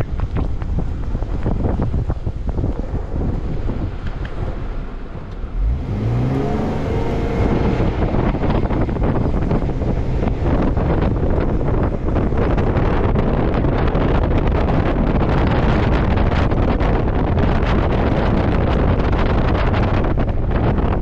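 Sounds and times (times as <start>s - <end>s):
car engine revving: 0.0s - 20.8s
wind buffeting microphone: 0.0s - 21.0s.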